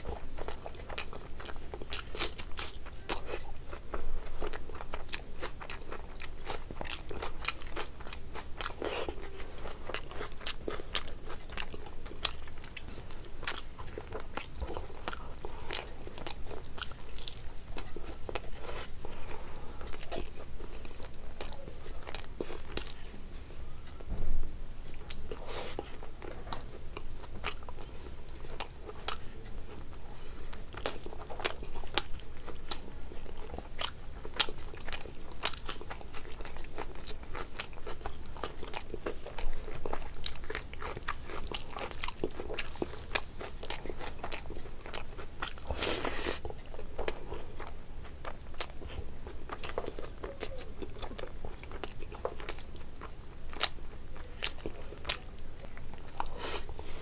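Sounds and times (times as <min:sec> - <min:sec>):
wet chewing and lip smacks: 0:00.0 - 0:23.2, 0:24.8 - 0:57.0
food crunching: 0:00.0 - 0:24.2, 0:24.8 - 0:57.0.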